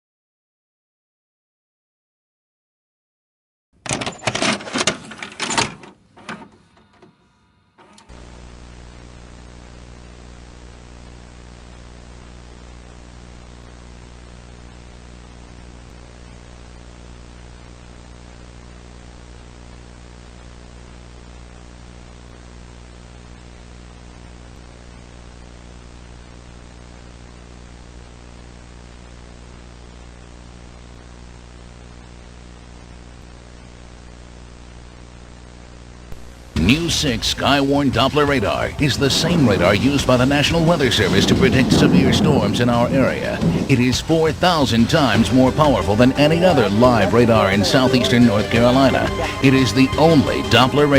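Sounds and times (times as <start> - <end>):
low electrical hum: 3.9 - 50.9
static hiss: 6.2 - 50.9.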